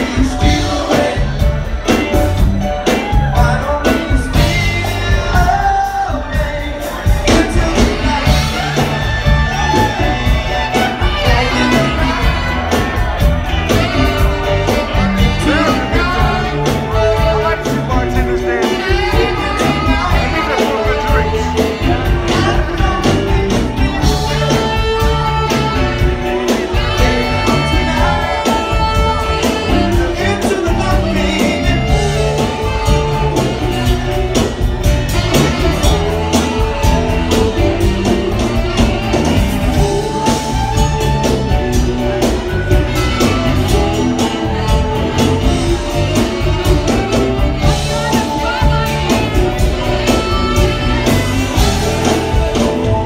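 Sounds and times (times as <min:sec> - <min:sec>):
lead singer singing: 0:00.0 - 0:53.0
live soft rock band: 0:00.0 - 0:53.0.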